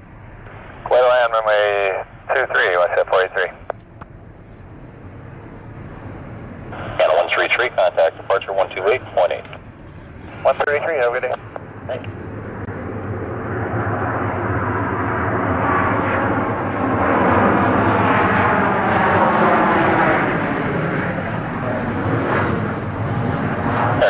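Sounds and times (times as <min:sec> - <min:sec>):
jet airliner engines rumbling: 0:00.0 - 0:24.0.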